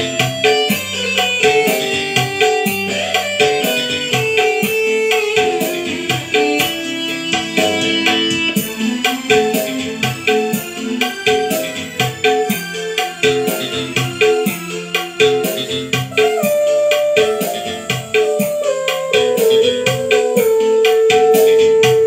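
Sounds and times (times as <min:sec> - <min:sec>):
music with steady beat and melody: 0:00.0 - 0:22.0.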